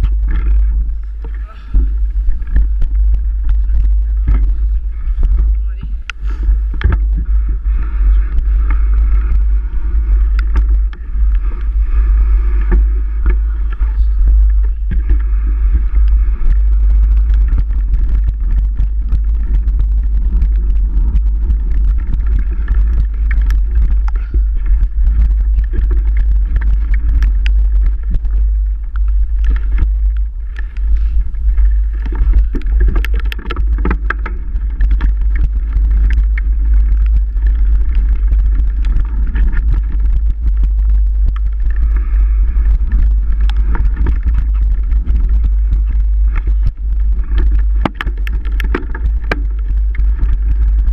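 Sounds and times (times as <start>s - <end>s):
bike rattling and knocking: 0.0s - 50.9s
low rumble on microphone: 0.0s - 50.9s.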